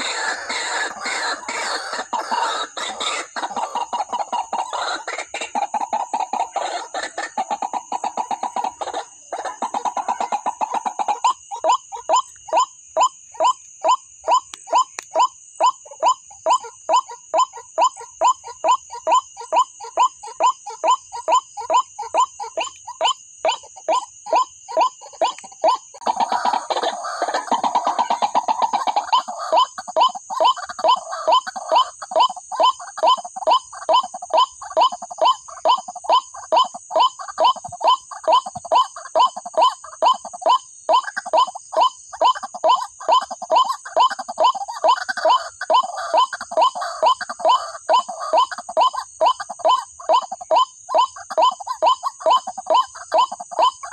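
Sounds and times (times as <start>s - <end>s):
waterhen calling: 0.0s - 12.6s, 19.4s - 53.9s.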